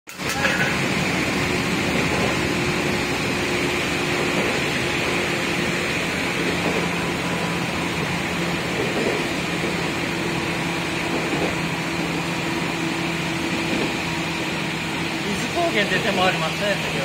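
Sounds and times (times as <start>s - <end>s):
train rumble and rail noise: 0.1s - 17.0s.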